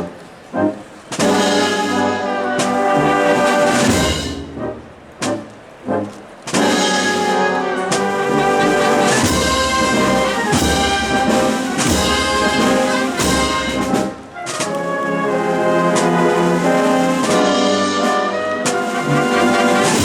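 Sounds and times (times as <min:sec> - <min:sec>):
brass band march: 0:00.0 - 0:20.0
sharp drum strokes: 0:01.1 - 0:05.5, 0:06.5 - 0:14.8, 0:15.9 - 0:20.0.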